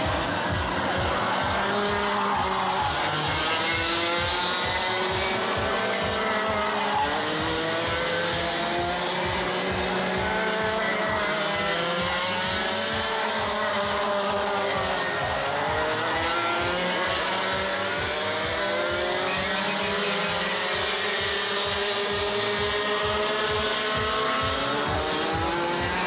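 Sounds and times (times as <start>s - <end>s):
kart engines revving: 0.0s - 26.0s.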